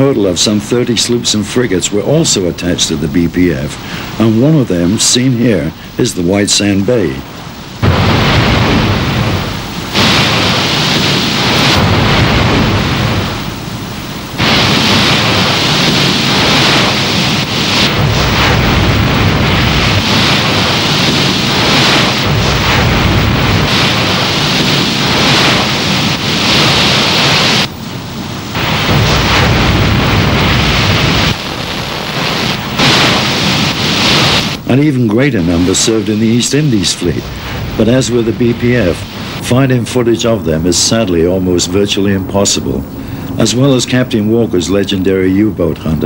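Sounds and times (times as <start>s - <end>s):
rushing sea: 1.5s - 41.2s
wind noise: 7.2s - 44.2s.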